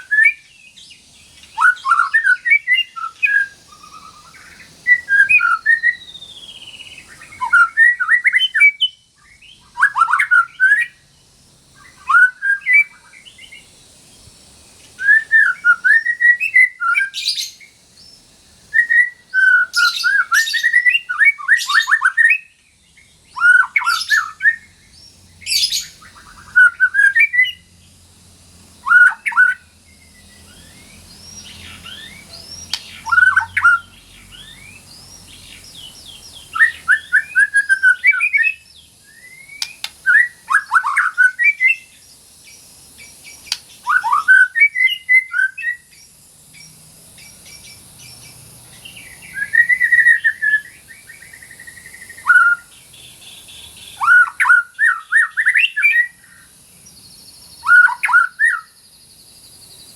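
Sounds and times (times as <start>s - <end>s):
songbird whistling phrases: 0.0s - 11.1s, 11.7s - 13.7s, 14.9s - 27.8s, 28.8s - 46.0s, 46.6s - 56.5s, 57.5s - 58.8s.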